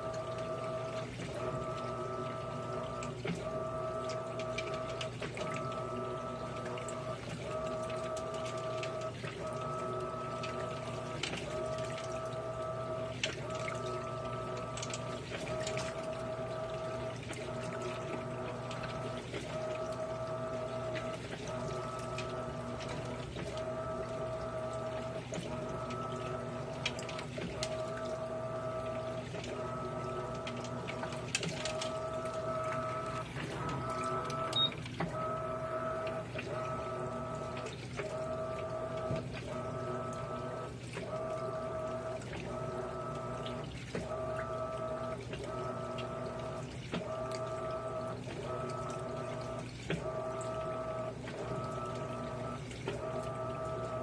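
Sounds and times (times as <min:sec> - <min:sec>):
washing machine motor whine: 0:00.0 - 0:54.0
water sloshing in drum: 0:00.0 - 0:54.0.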